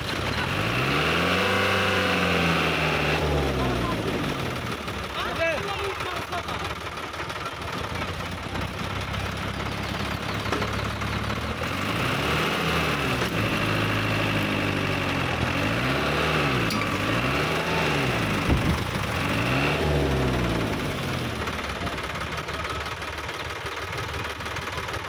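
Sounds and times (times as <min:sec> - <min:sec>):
tractor engine revving: 0:00.0 - 0:25.0.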